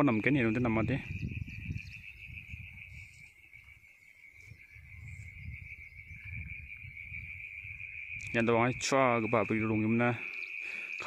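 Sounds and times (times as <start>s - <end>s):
high insect trilling: 0.0s - 11.0s.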